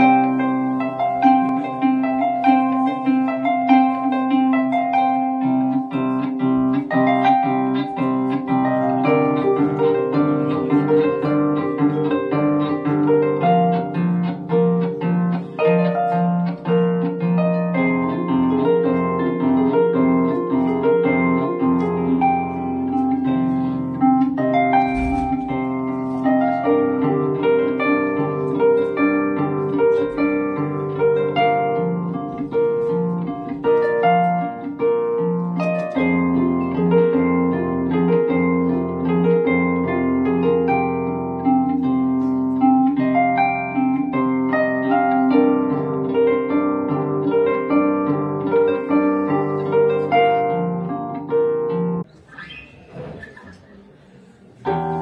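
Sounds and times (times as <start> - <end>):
harp plucked notes: 0.0 - 52.9.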